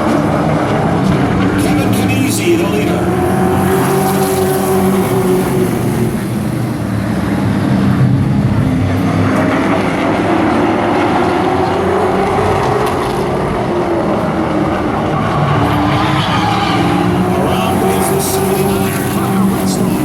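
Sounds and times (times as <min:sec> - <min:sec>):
race truck engines droning: 0:00.0 - 0:20.0.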